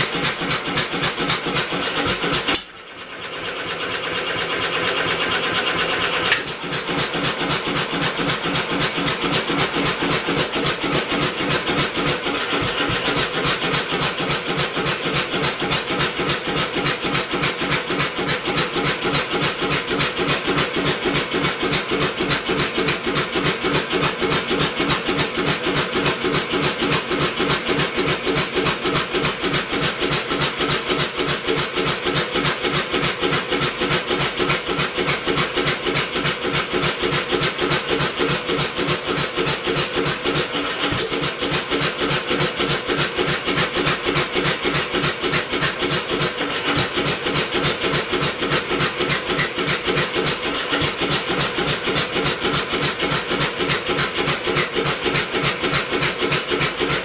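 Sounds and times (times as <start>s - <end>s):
engine being cranked: 0.0s - 2.7s, 4.0s - 57.0s.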